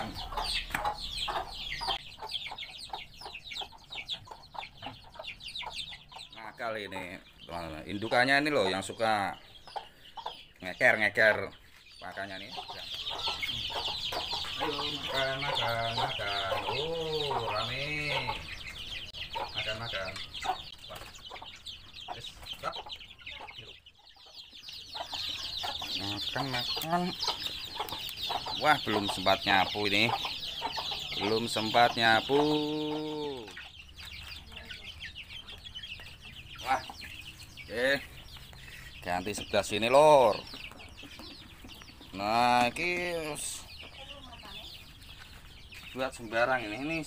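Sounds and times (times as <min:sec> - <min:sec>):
chicks peeping: 0:00.0 - 0:47.0
hen clucking: 0:00.0 - 0:47.0.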